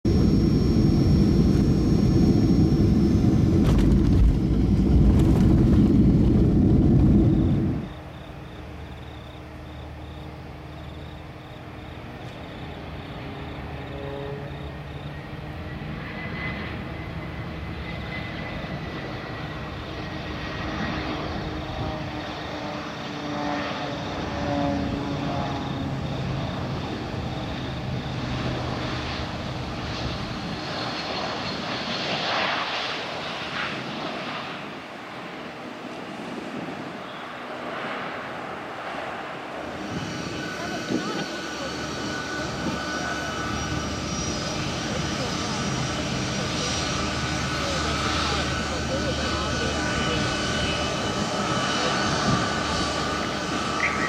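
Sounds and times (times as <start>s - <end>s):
jet engines rumbling: 0.0s - 54.0s
jet engines whining: 0.0s - 54.0s.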